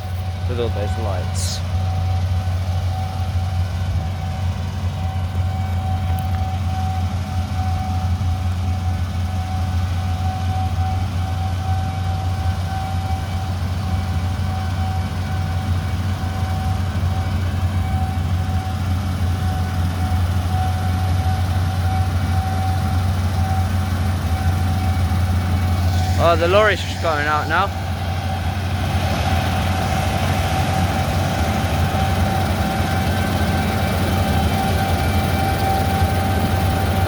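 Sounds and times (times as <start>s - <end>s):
diesel machinery engine hum: 0.0s - 37.0s
thin steady whine: 0.0s - 37.0s.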